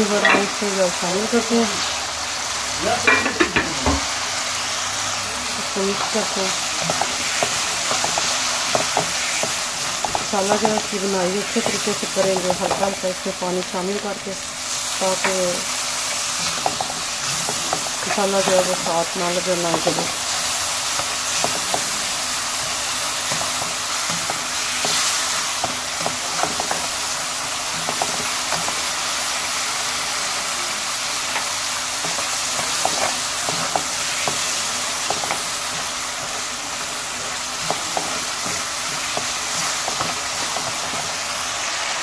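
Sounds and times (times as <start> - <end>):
masala sizzling in oil: 0.0 - 42.0.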